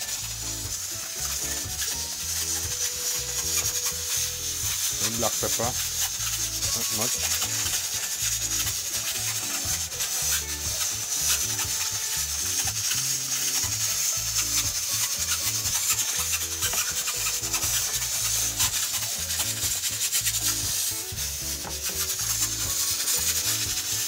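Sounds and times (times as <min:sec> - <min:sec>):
background music with bass: 0:00.0 - 0:24.0.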